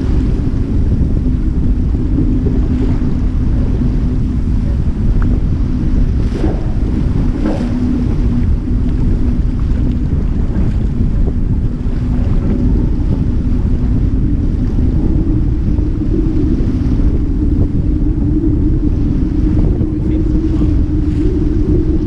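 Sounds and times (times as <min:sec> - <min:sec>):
water rushing along hull: 0:00.0 - 0:22.0
waves splashing against hull: 0:00.0 - 0:22.0
wind buffeting microphone: 0:00.0 - 0:22.0.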